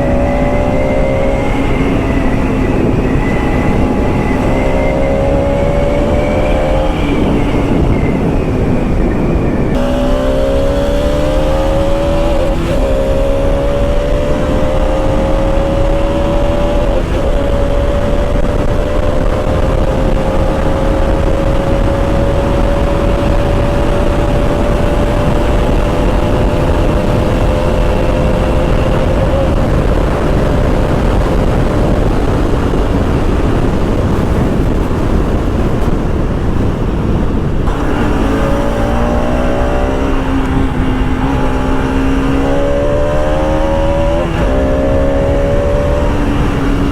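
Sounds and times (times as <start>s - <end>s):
motorcycle engine revving: 0.0s - 46.9s
wind on microphone: 0.0s - 46.9s.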